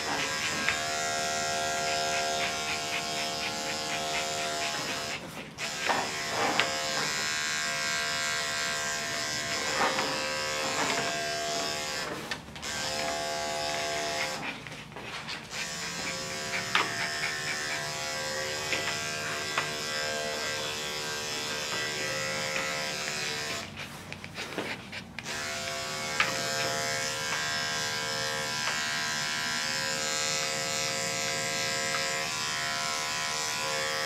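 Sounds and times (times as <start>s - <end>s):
electric clippers buzzing: 0.0s - 14.5s, 15.4s - 23.8s, 25.2s - 34.0s.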